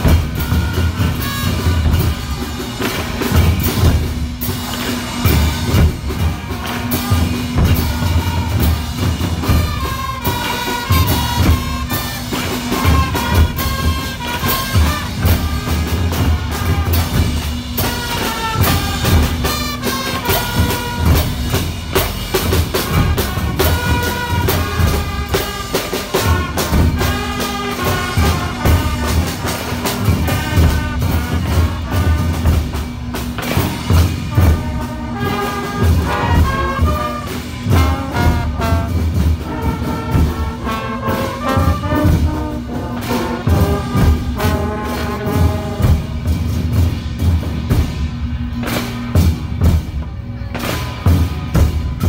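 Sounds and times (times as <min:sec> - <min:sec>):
cymbals clashing: 0:00.0 - 0:52.0
snare drums: 0:00.0 - 0:52.0
trumpets and sousaphones: 0:00.0 - 0:52.0.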